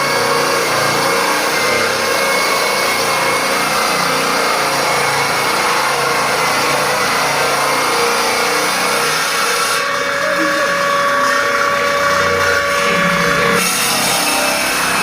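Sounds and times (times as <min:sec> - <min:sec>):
band sawmill running: 0:00.0 - 0:15.0.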